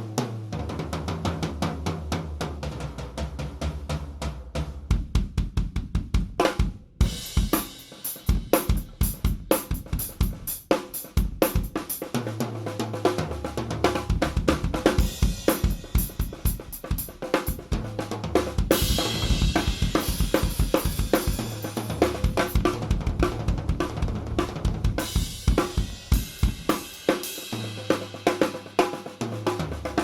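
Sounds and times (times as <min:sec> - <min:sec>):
drum kit groove: 0:00.0 - 0:30.0.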